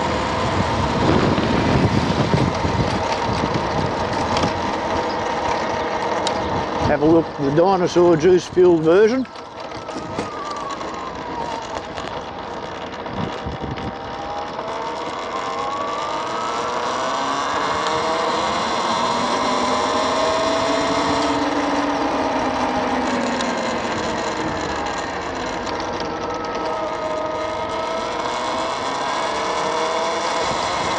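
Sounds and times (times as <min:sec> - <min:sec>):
wind noise on microphone: 0:00.0 - 0:07.4, 0:09.7 - 0:15.7, 0:16.3 - 0:26.7, 0:27.5 - 0:30.9
petrol engine vehicle passing: 0:00.0 - 0:30.9.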